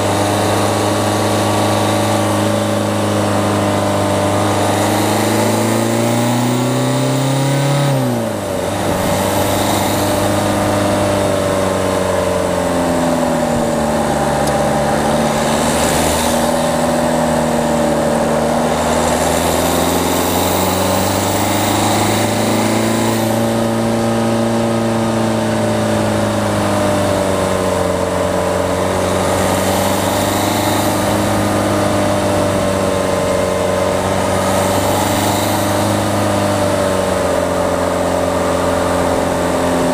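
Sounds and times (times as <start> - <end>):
diesel car engine revving: 0.0 - 39.9.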